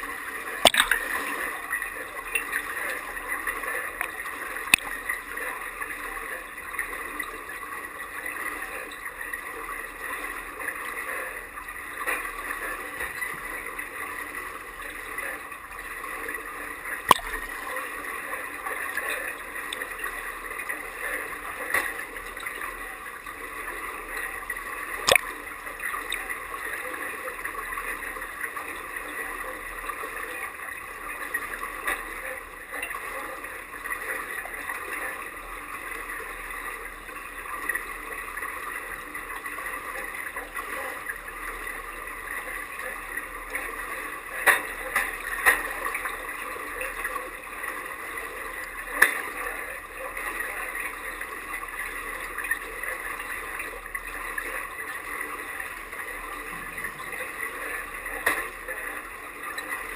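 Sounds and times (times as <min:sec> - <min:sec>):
water lapping and gurgling: 0:00.0 - 0:59.9.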